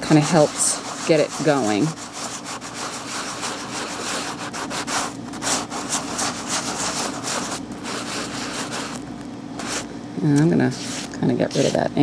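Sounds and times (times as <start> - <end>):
sponge scratching on wet paper: 0.0 - 9.0, 9.6 - 9.9, 10.7 - 11.9.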